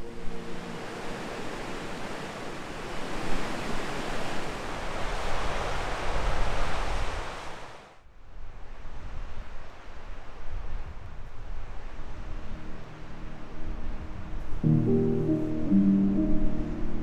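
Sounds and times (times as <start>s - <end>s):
wind gusting against microphone: 0.0s - 15.0s.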